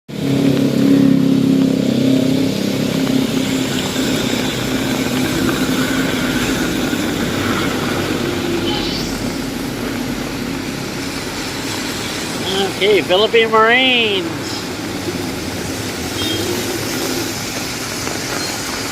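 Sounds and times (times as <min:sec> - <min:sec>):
vehicle engine passing by: 0:00.1 - 0:18.0
rain hissing on wet road: 0:00.1 - 0:18.9
street traffic: 0:00.1 - 0:18.9.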